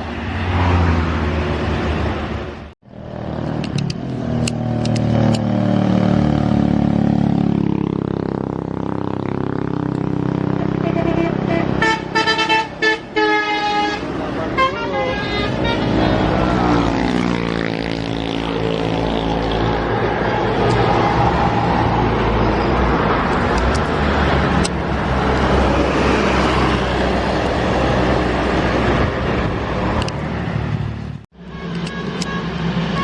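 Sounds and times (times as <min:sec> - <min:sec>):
traffic passing: 0:00.0 - 0:33.0.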